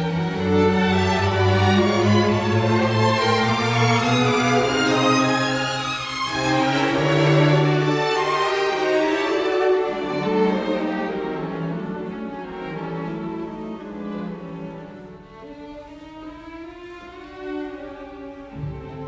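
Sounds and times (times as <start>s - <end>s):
violin and cello slow notes: 0.0s - 19.0s.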